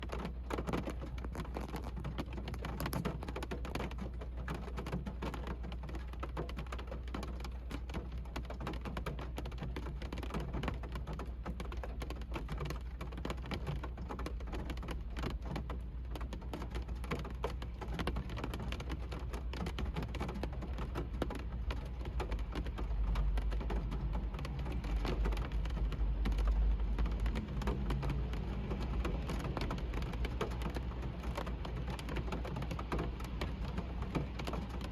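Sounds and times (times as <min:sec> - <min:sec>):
rain drops hitting a car: 0:00.0 - 0:34.9.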